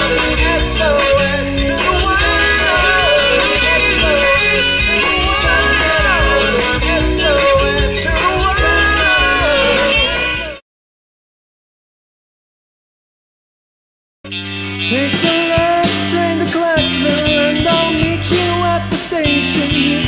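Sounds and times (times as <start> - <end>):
band playing rock song: 0.0 - 10.6, 14.3 - 20.0.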